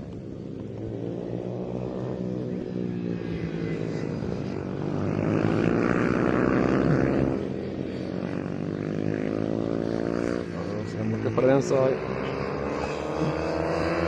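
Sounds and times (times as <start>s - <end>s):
mini motorcycles racing past: 0.0s - 14.0s.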